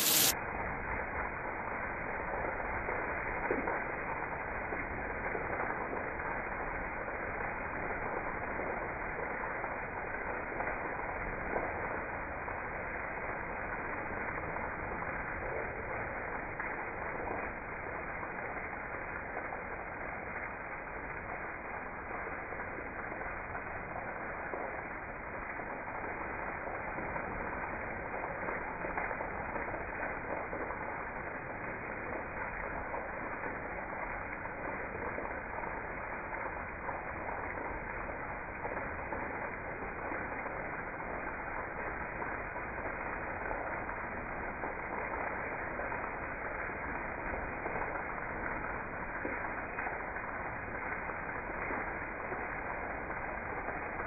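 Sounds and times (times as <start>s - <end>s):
heavy rain on trees: 0.0s - 54.0s.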